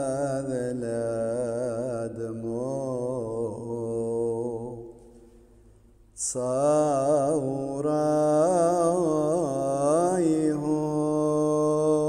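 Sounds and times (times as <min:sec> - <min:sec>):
man chanting: 0:00.0 - 0:05.0, 0:06.2 - 0:12.0.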